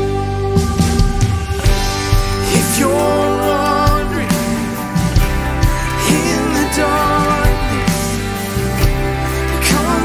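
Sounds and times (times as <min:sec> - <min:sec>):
worship band music: 0:00.0 - 0:10.0.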